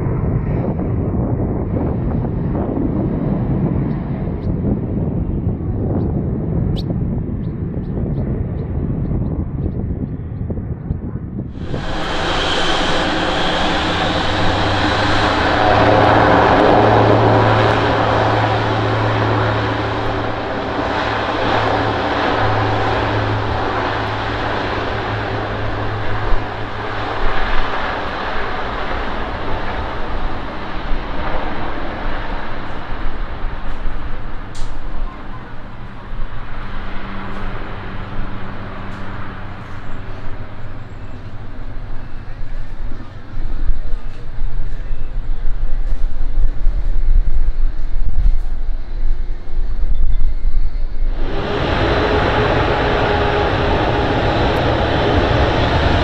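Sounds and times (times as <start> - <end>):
turboprop engines droning: 0.0 - 56.0.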